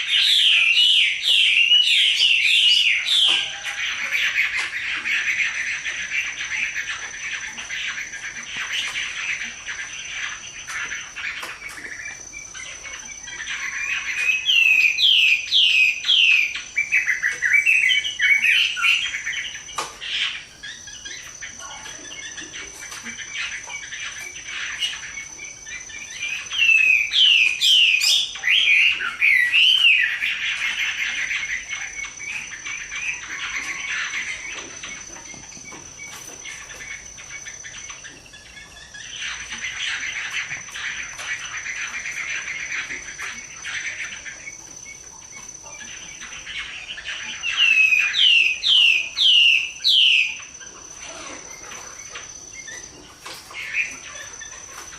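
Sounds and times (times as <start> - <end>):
bird warbling: 0.0 - 54.9
bird whistling song: 0.0 - 54.9.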